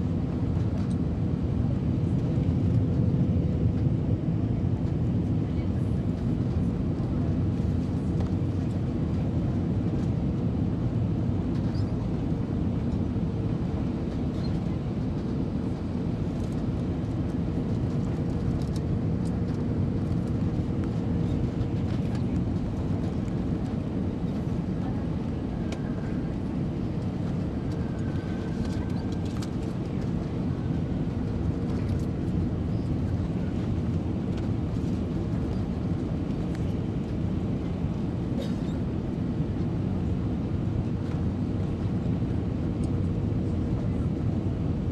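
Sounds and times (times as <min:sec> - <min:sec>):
aircraft cabin engine rumble: 0:00.0 - 0:44.9.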